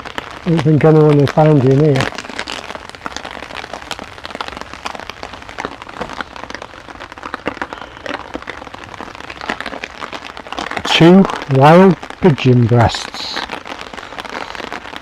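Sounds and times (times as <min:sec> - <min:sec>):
heavy rain on a tarp: 0:00.0 - 0:15.0.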